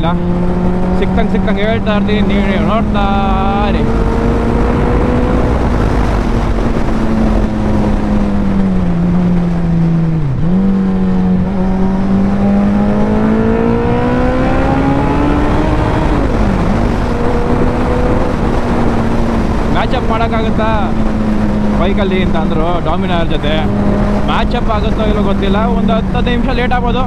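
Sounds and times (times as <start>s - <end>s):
motorcycle engine accelerating: 0.0s - 27.0s
wind noise: 0.0s - 27.0s.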